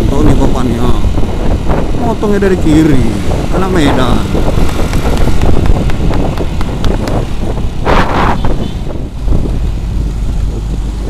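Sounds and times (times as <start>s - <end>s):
motorcycle engine rumble: 0.0s - 11.0s
wind rushing over microphone: 0.0s - 11.0s.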